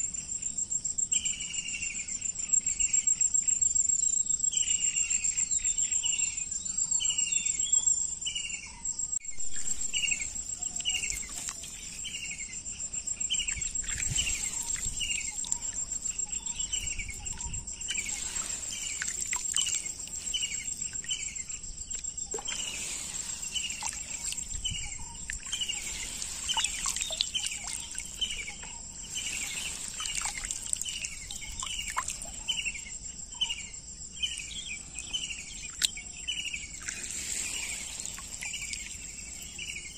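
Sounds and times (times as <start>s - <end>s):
insects trilling: 0.0s - 39.9s
bird chirping: 4.0s - 39.9s.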